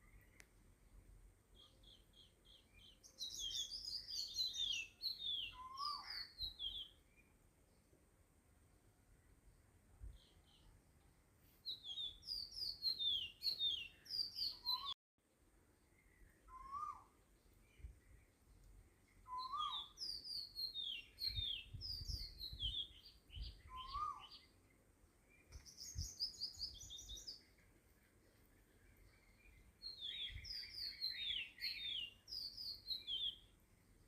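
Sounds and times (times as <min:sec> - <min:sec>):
small birds chirping: 0:00.0 - 0:07.9, 0:09.0 - 0:15.0, 0:15.7 - 0:34.0.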